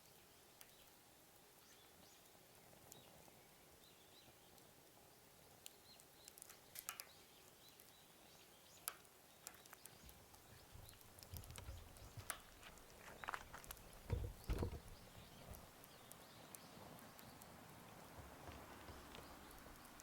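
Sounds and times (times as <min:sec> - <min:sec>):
campfire crackling: 0:00.1 - 0:20.0.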